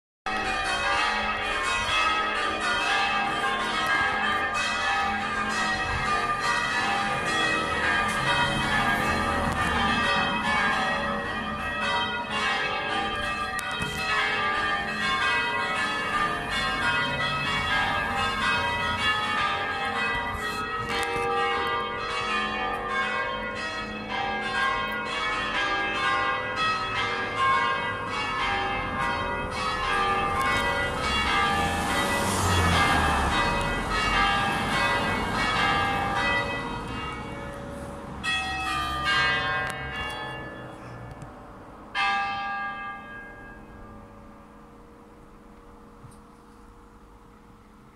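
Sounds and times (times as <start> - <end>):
church bells ringing: 0.3 - 47.9.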